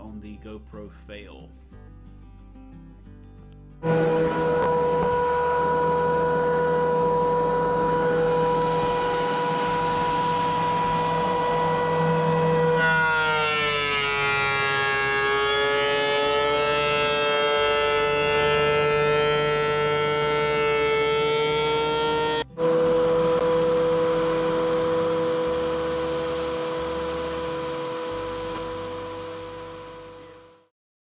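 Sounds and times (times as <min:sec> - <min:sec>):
planer cutting wood: 0:03.8 - 0:30.7
thickness planer whine: 0:03.8 - 0:30.7.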